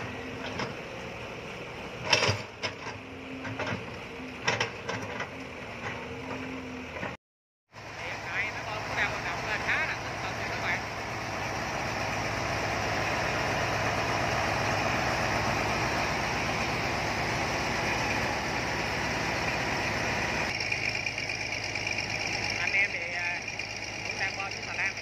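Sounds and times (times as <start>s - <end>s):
large diesel engine running: 0.0s - 25.0s.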